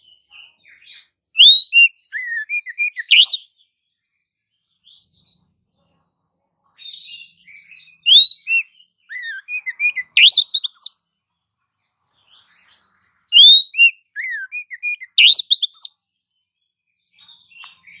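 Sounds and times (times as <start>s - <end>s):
small bird calls and chirps: 0.0s - 18.0s.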